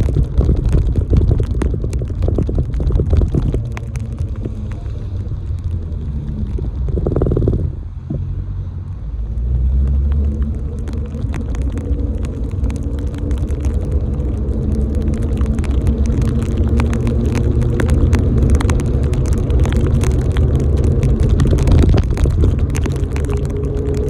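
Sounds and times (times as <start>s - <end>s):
raindrops ticking on camera: 0.0s - 24.0s
wind rumbling on microphone: 0.0s - 24.0s.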